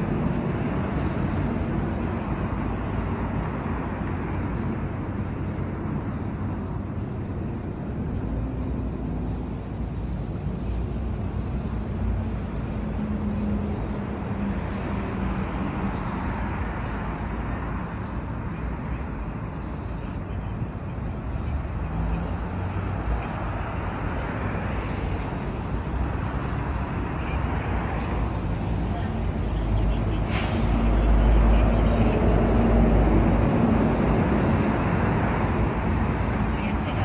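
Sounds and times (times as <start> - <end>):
cars and buses passing: 0.0 - 37.0.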